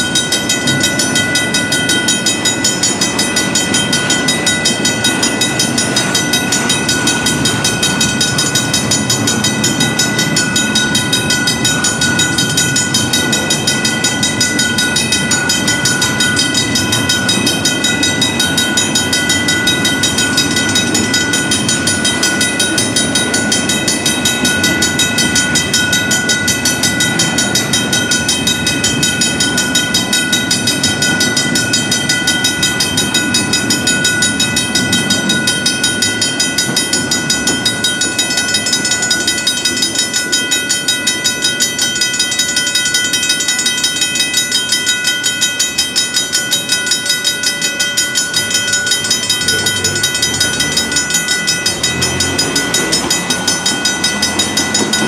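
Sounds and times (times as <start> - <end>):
crossing bells ringing: 0.0 - 55.0
freight train rumbling: 0.0 - 55.0.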